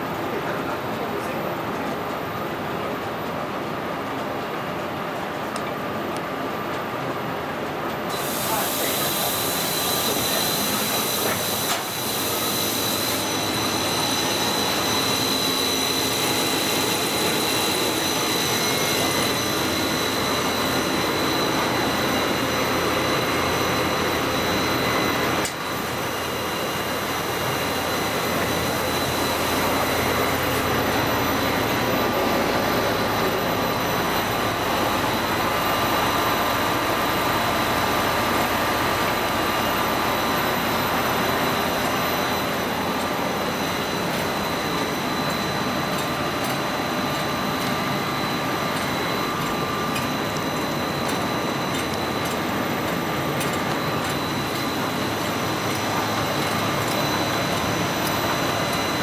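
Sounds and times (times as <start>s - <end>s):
printing press rumble: 0.0s - 59.0s
thin high whine: 8.0s - 59.0s.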